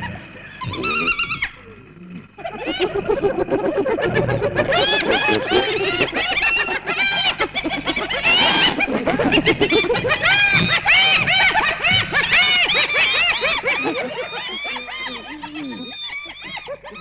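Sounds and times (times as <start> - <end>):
hyenas cackling and screeching: 0.0 - 17.0.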